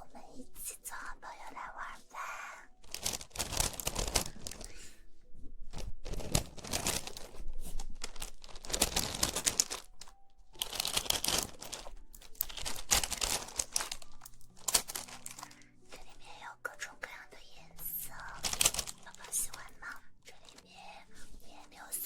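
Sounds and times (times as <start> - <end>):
material crinkling and rustling: 2.7 - 16.2, 17.8 - 22.0.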